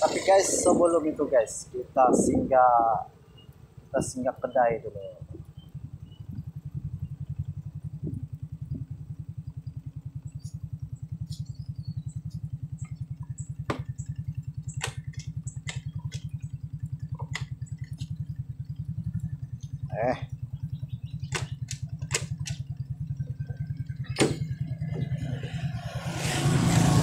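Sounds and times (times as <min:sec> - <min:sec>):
small motorcycle engine running: 0:00.0 - 0:27.0.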